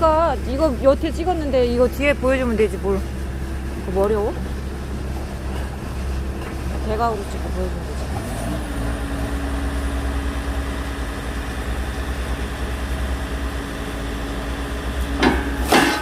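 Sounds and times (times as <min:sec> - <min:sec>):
engine whine: 0:00.0 - 0:16.0
excavator diesel engine running: 0:00.0 - 0:16.0.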